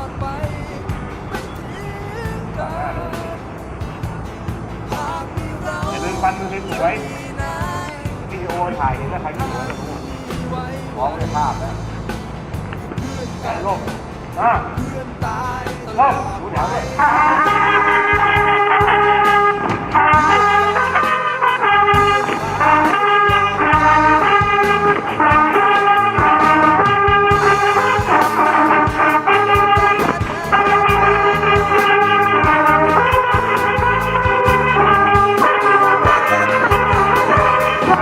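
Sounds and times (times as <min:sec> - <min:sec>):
brass melody: 0:00.0 - 0:14.8, 0:15.9 - 0:38.0
bass: 0:00.0 - 0:38.0
steady drum beat: 0:00.0 - 0:38.0.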